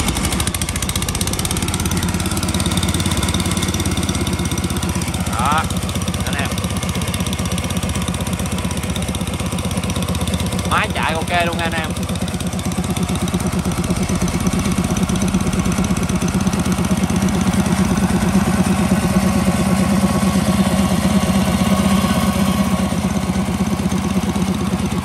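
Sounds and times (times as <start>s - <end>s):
air compressor petrol engine running: 0.0s - 25.0s.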